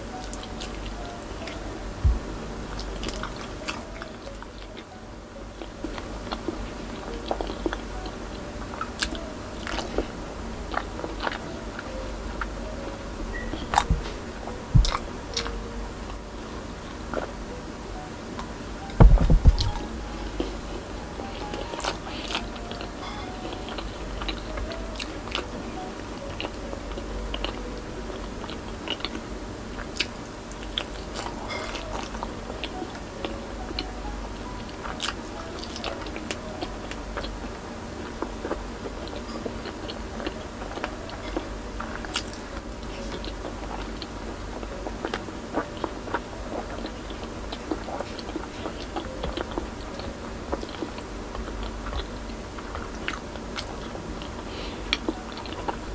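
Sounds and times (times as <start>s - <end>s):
faint background music: 0.0s - 55.9s
wet chewing and mouth clicks: 0.1s - 5.0s, 5.6s - 12.5s, 13.3s - 16.2s, 18.8s - 20.6s, 21.3s - 55.9s.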